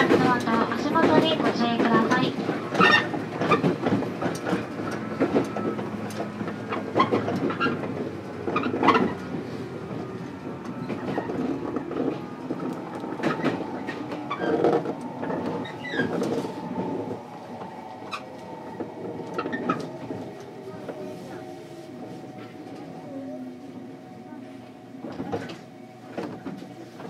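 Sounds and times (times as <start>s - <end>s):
train wheels rumbling and clattering: 0.0s - 27.0s.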